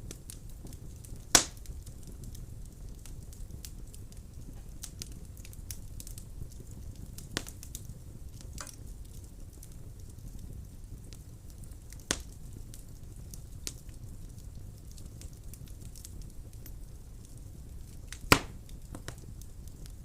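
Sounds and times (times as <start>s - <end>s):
fire crackling in fireplace: 0.0s - 20.0s
sharp pops of burning wood: 0.0s - 20.0s.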